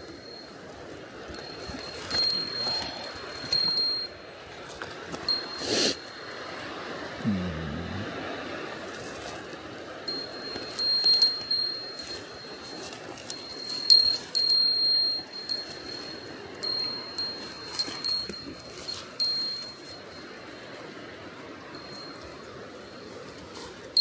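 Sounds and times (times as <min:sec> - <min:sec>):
metal bell jingling: 0:00.0 - 0:06.3, 0:10.1 - 0:24.0.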